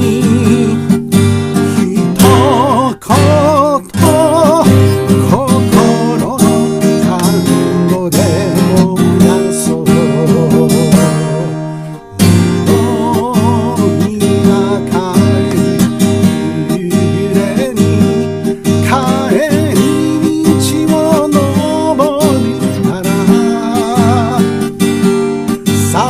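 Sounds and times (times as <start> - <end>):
person singing with vibrato: 0.0 - 26.0
strummed acoustic guitar: 0.0 - 26.0.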